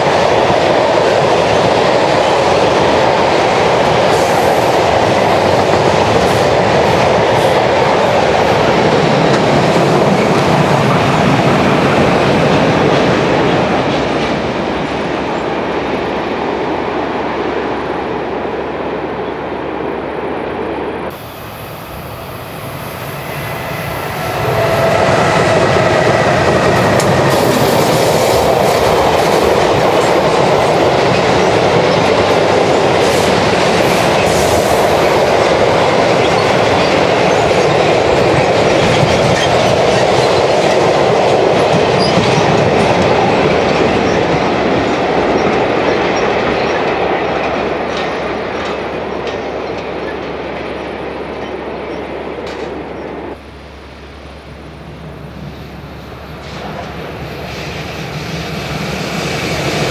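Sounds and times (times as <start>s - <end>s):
locomotive whine: 0.0s - 59.9s.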